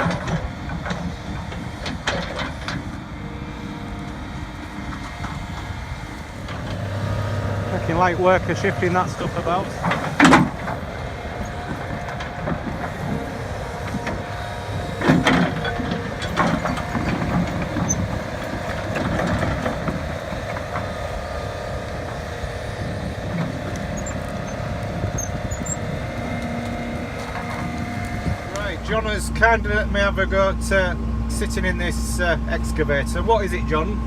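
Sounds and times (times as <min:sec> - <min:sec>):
excavator engine running: 0:00.0 - 0:34.0.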